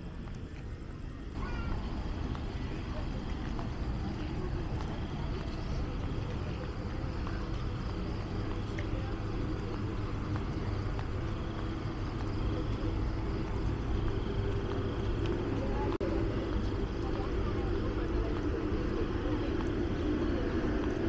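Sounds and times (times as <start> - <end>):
faint voices: 0.0 - 21.0
street traffic rumble: 0.0 - 21.0.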